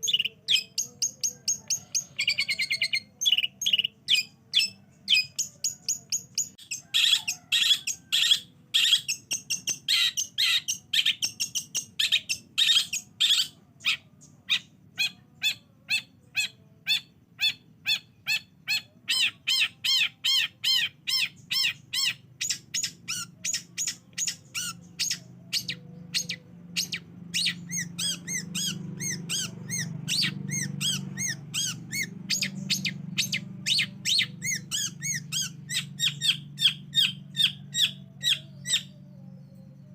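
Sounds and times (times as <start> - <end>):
bird song of sharp repeated notes: 0.0 - 39.9.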